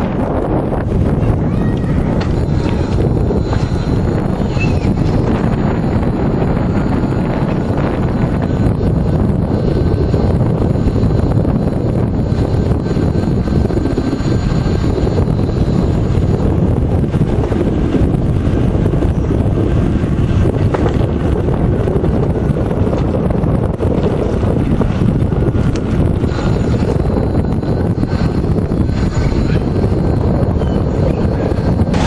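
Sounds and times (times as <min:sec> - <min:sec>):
wind buffeting microphone: 0:00.0 - 0:32.0
faint high whining tones: 0:00.1 - 0:20.6, 0:21.2 - 0:32.0.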